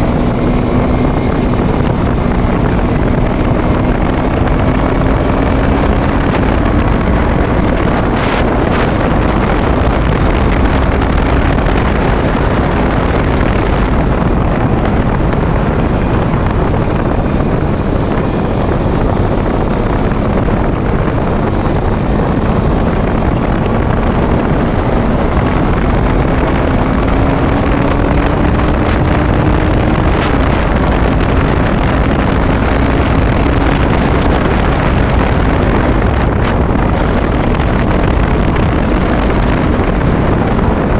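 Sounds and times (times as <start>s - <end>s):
motorcycle engine: 0.0s - 40.9s
wind rushing over microphone: 0.0s - 40.9s.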